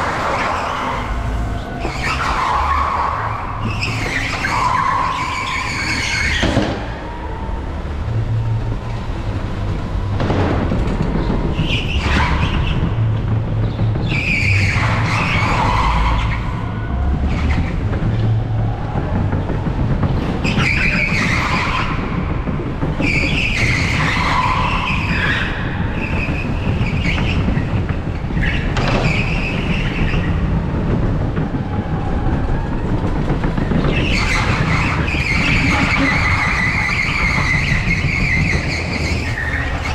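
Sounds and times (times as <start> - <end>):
tyres squealing: 0.0 - 10.3, 10.9 - 39.9
kart rumbling over tarmac: 0.0 - 39.9.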